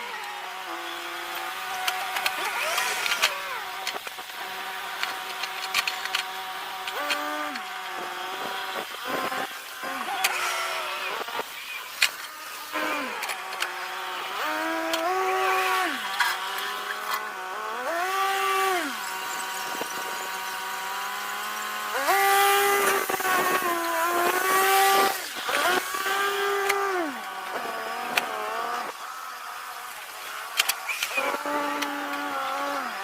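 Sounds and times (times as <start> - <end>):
skid steer engine revving: 0.0 - 33.0.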